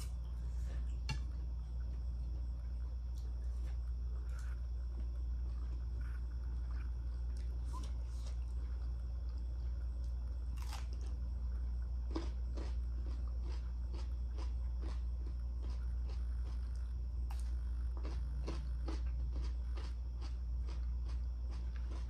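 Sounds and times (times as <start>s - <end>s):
person chewing food: 0.0s - 22.0s
steady low hum: 0.0s - 22.0s.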